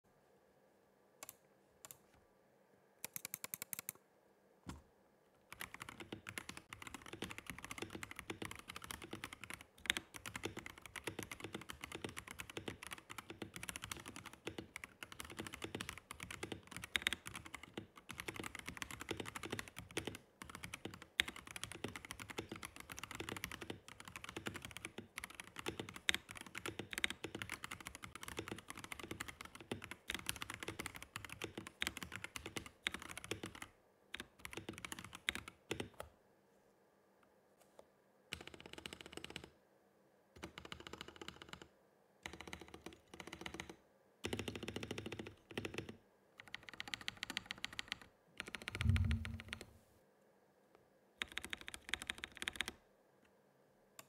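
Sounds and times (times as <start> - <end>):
mechanical keyboard typing: 3.0 - 4.0, 5.5 - 36.1, 38.3 - 39.6, 40.4 - 49.7, 51.2 - 52.8.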